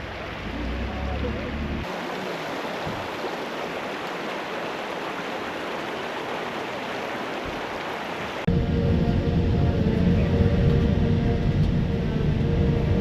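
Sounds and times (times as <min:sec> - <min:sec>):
rushing flowing water: 0:00.0 - 0:13.0.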